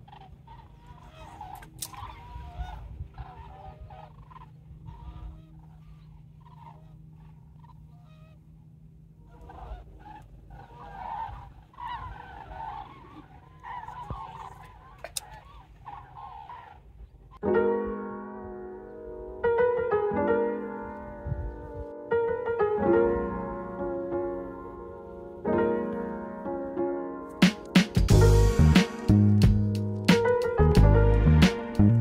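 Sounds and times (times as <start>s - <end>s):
geese honking: 0.0s - 17.5s, 18.3s - 26.8s, 27.4s - 32.0s.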